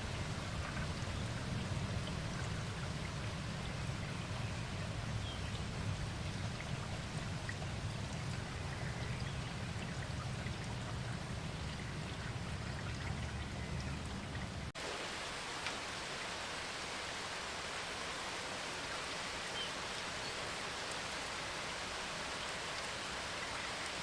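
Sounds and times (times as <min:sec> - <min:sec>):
bright rain hiss: 0:00.0 - 0:24.0
steady rain: 0:00.0 - 0:24.0.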